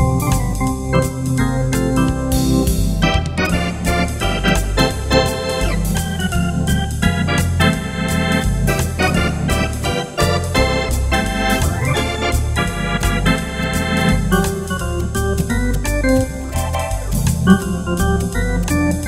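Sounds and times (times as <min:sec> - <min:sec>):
electronic organ playing swing: 0:00.0 - 0:19.0
pedal bass line: 0:00.0 - 0:19.0.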